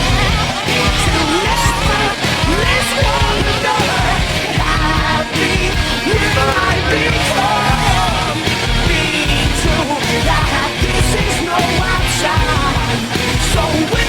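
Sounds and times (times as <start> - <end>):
punk rock music with shouted singing: 0.0 - 14.0.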